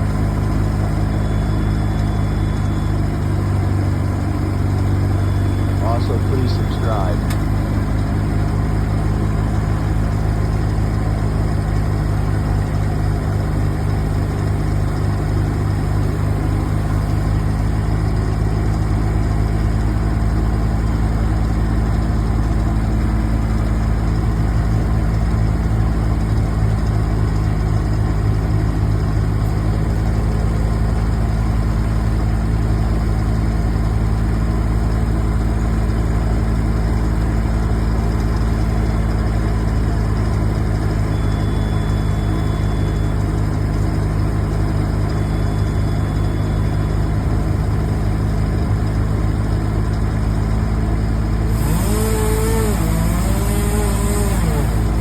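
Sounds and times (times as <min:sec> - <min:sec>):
large engine idling: 0:00.0 - 0:55.0.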